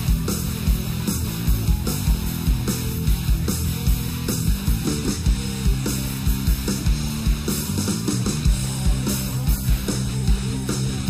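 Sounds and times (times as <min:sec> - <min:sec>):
electric guitar lead: 0:00.0 - 0:11.0.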